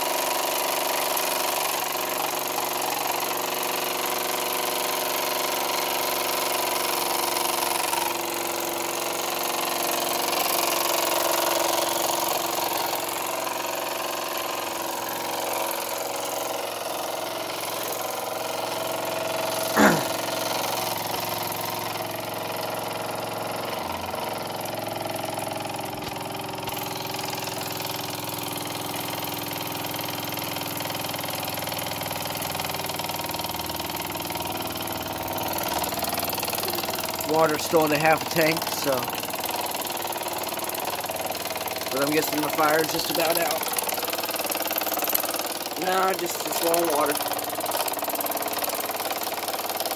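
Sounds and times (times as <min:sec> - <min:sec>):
toy steam engine running: 0:00.0 - 0:49.9.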